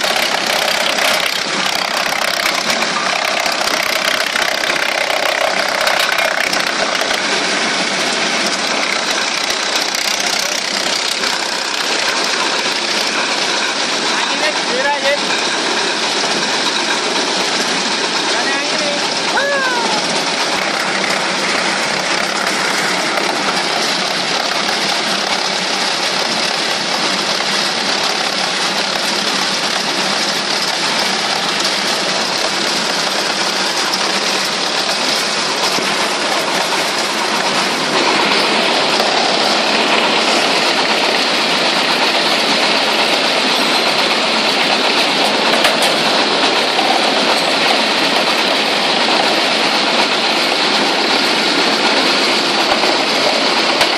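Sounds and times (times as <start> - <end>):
wood chipper running: 0.0 - 53.9.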